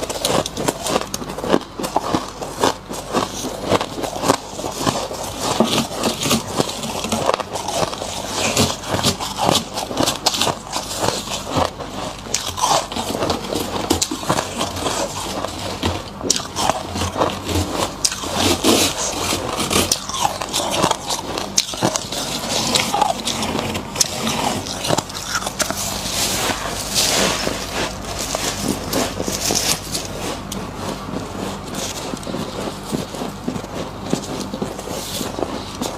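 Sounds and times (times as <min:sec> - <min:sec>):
scraping and crunching of ice: 0:00.0 - 0:35.9.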